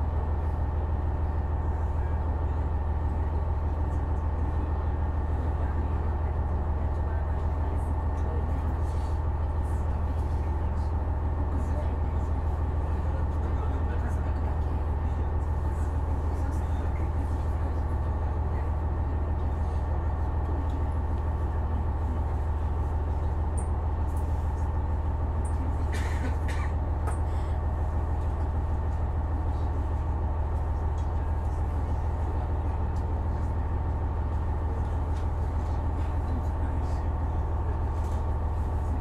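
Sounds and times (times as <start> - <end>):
diesel engine idling hum: 0.0 - 39.0.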